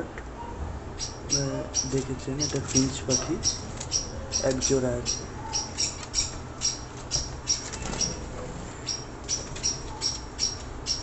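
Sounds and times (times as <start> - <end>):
finches chirping: 0.9 - 11.0.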